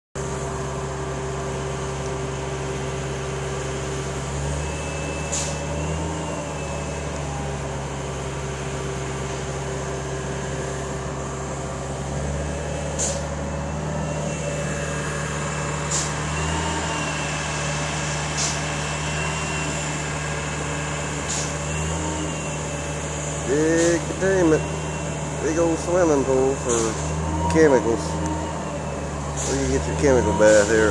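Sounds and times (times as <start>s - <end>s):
machinery humming: 0.2s - 30.9s.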